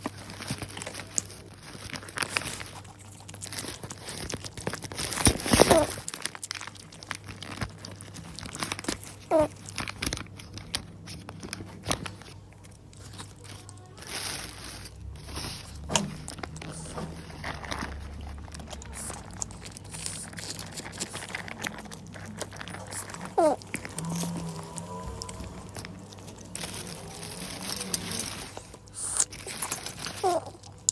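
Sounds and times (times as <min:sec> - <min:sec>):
crunching and crinkling: 0:00.0 - 0:30.9.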